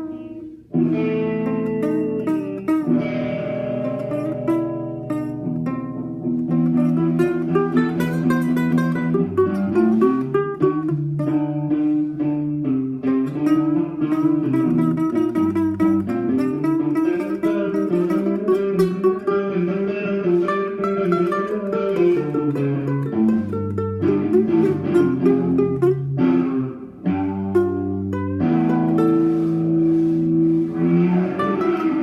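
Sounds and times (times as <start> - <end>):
guitar picking: 0.0 - 32.0.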